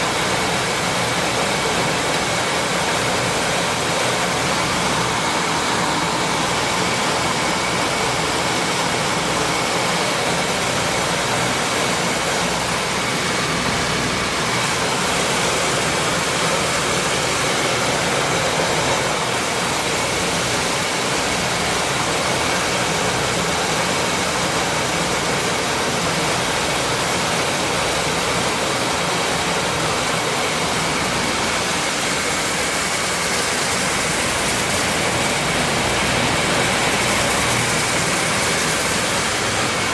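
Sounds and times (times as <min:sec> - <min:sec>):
milling machine running: 0:00.0 - 0:39.9.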